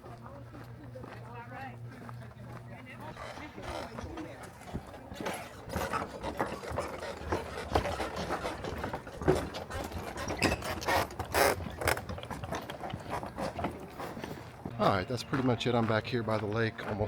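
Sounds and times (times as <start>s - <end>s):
footsteps on trail: 0.0s - 17.0s.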